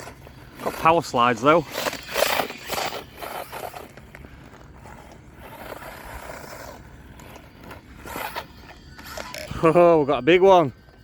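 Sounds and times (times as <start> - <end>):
toy motorbike tyre scrabbling on ice: 0.0 - 9.6.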